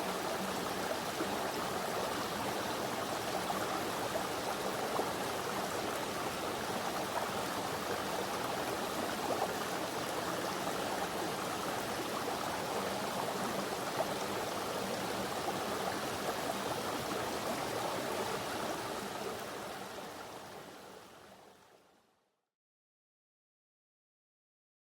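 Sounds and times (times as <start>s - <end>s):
stream flowing over rocks: 0.0s - 21.7s.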